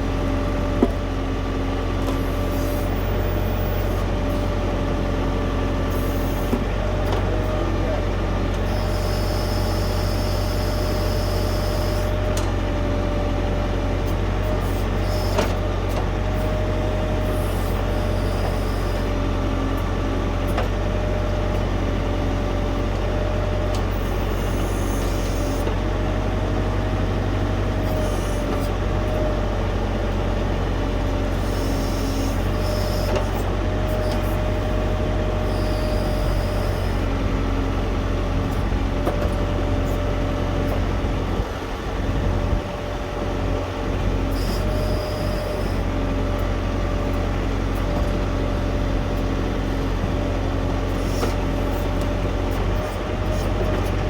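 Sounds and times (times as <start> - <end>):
diesel tractor engine running: 0.0 - 54.0
steady engine whine: 0.0 - 54.0.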